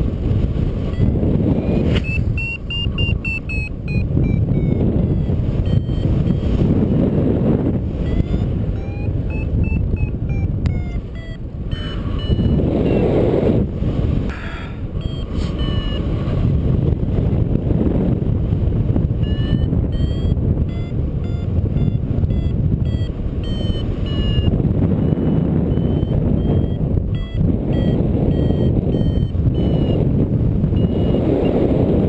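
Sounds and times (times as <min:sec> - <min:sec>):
wind noise on microphone: 0:00.0 - 0:32.0
variometer beeping: 0:00.7 - 0:13.7, 0:14.8 - 0:16.5, 0:19.0 - 0:32.0.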